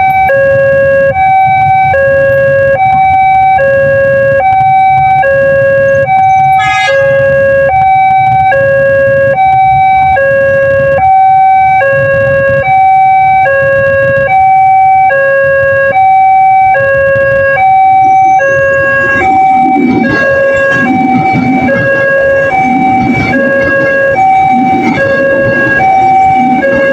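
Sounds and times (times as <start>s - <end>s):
two-tone crossing alarm: 0.0s - 26.9s.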